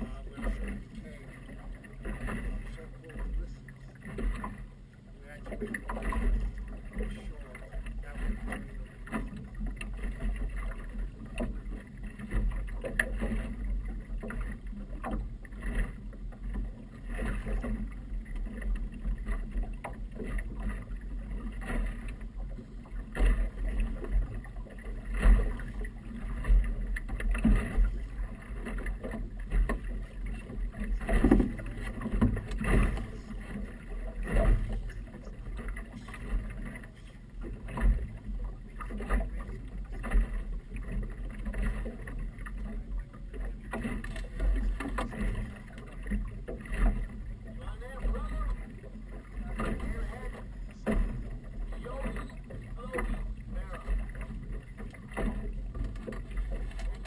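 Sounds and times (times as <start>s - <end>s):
waves slapping against hull: 0.0s - 57.0s.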